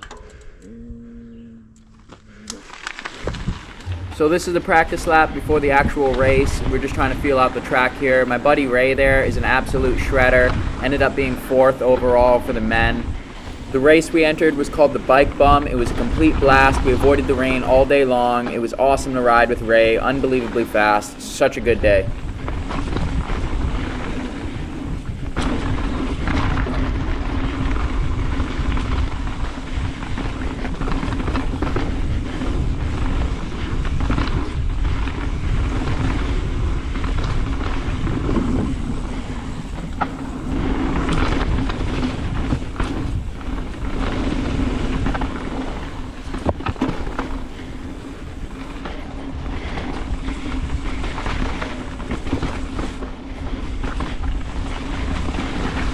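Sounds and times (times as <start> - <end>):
bike rattling: 0.0 - 55.9
bike tyres rumbling over dirt: 1.9 - 55.9.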